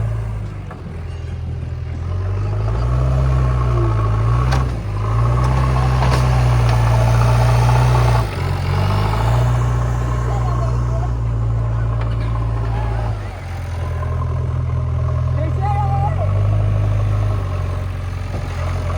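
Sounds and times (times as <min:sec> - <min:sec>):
diesel engine revving under load: 0:00.0 - 0:18.9.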